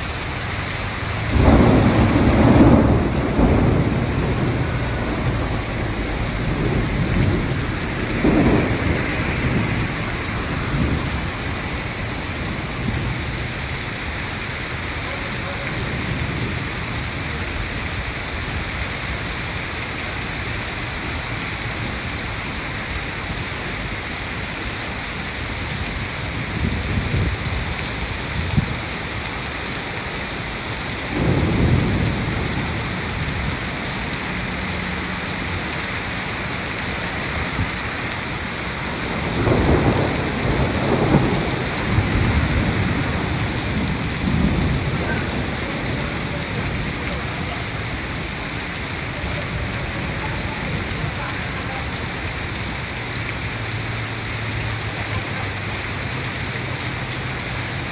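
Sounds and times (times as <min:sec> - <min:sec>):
low rumbles of thunder: 0:00.0 - 0:57.5
heavy rain falling: 0:00.0 - 0:57.9.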